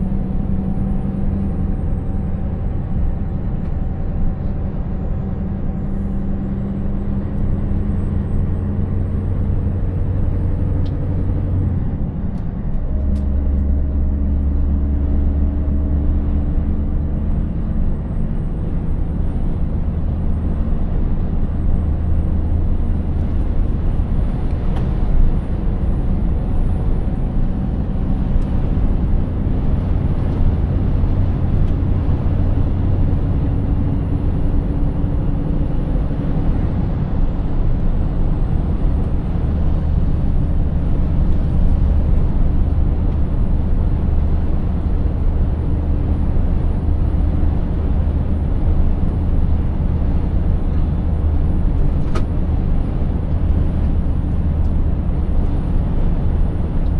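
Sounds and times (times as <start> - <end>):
diesel truck engine drone: 0.0 - 56.9
road and tyre noise: 0.0 - 56.9.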